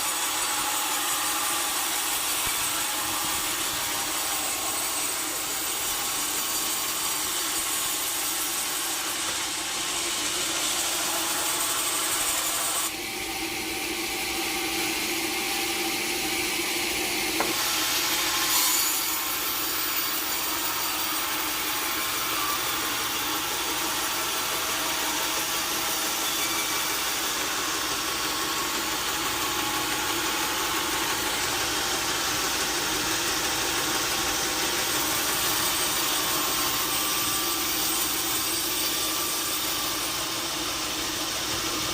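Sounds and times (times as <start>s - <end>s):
saw blade cutting log: 0.0s - 41.9s.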